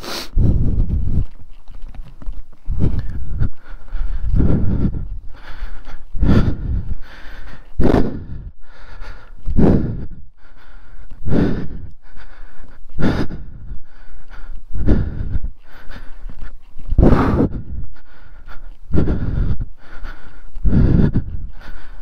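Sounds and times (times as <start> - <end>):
person breathing heavily: 0.0 - 22.0.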